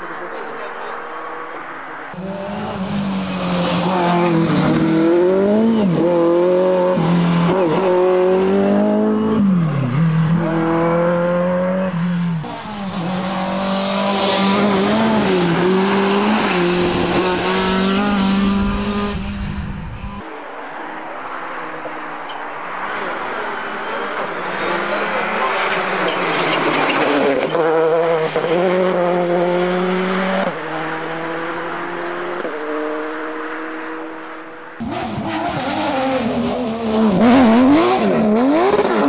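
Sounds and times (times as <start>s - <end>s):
rally car engine revving hard: 2.1s - 20.2s, 23.1s - 39.0s.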